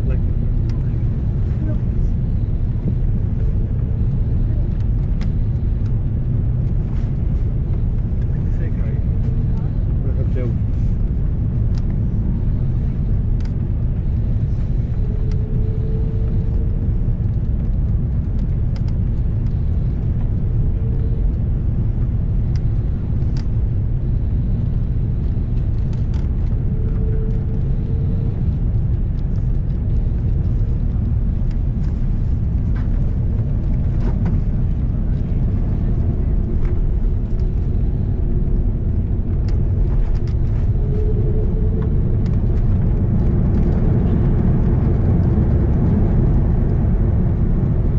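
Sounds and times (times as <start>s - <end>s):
airliner cabin engine rumble: 0.0s - 47.9s
faint hum: 0.0s - 47.9s.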